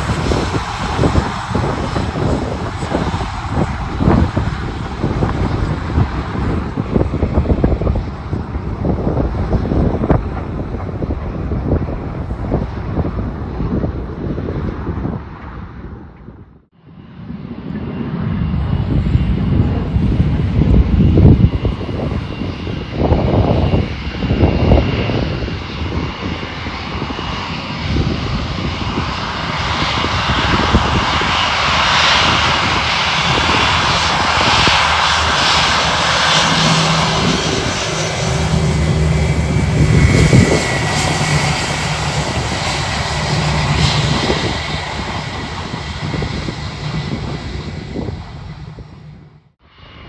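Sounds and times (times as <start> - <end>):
jet engine hiss and whine: 0.0 - 16.0, 16.6 - 50.0
wind buffeting microphone: 0.0 - 50.0.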